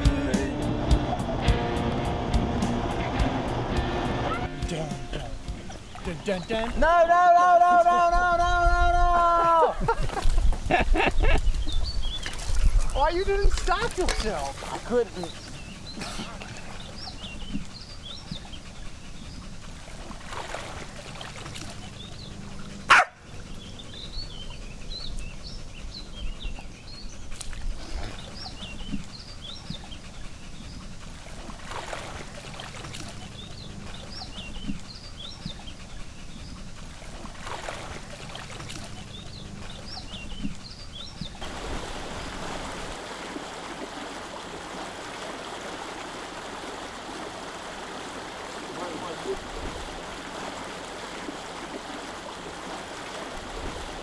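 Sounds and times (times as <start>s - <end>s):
water churned by trolling motor: 0.0s - 54.0s.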